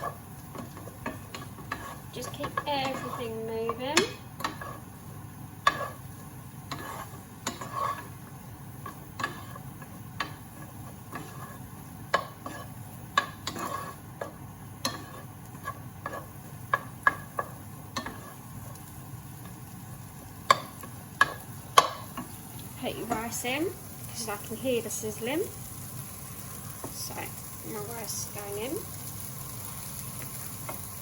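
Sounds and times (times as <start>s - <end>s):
frying sizzle: 0.0s - 31.0s
utensil scraping a frying pan: 0.0s - 31.0s.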